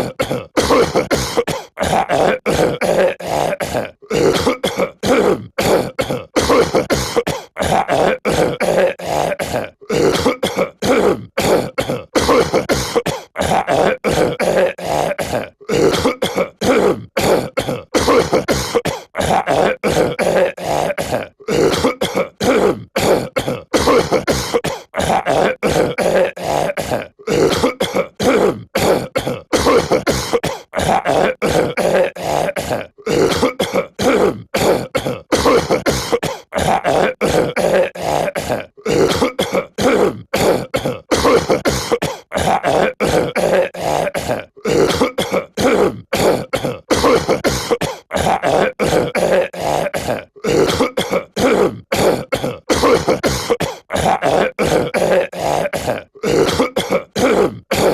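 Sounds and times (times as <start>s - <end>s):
cartoon voice clearing throat and coughing: 0.0s - 57.9s.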